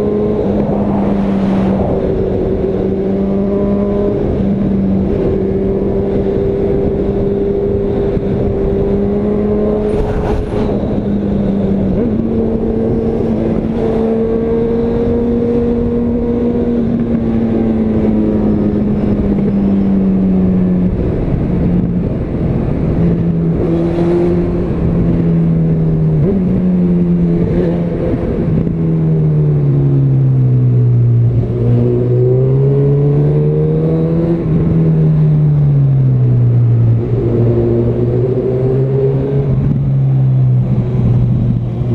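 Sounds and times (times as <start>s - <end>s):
motorcycle engine: 0.0s - 41.9s
wind rush: 0.0s - 41.9s.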